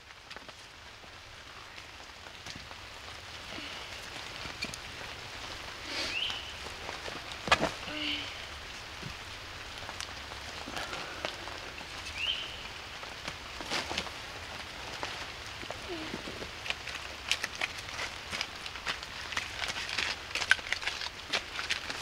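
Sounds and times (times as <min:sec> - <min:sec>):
sharp raindrop ticks: 0:00.0 - 0:15.9, 0:16.5 - 0:22.0
steady rain falling: 0:00.0 - 0:22.0.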